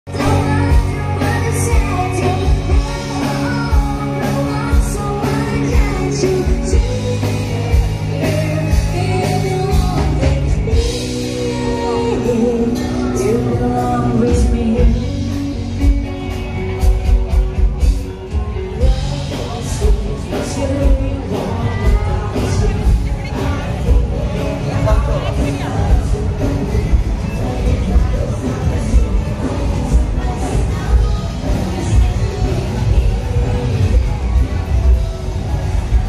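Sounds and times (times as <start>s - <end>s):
rock song with singer: 0.1s - 36.0s.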